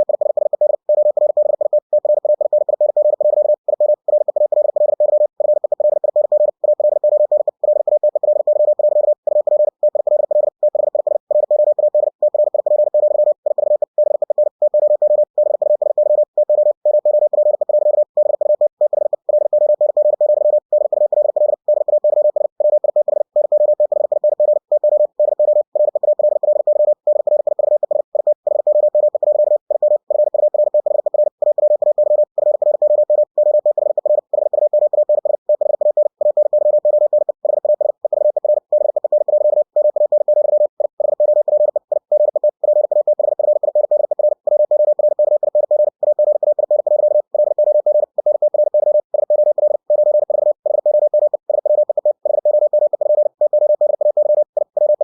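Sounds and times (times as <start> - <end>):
morse code tone: 0.0 - 55.0.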